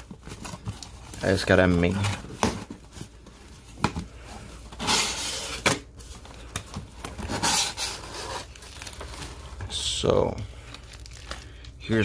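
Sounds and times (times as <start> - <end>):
cardboard scraping and rustling: 0.0 - 9.8.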